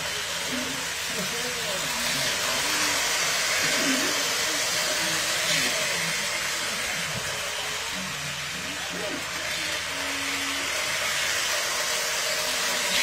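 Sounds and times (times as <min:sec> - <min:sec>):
toy trains whirring on metal rails: 0:00.0 - 0:13.0.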